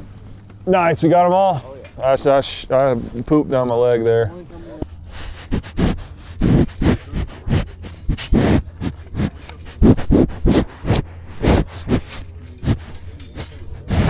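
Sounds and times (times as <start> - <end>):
scraping crunching noises: 0.0 - 14.0
steady low hum: 0.0 - 14.0.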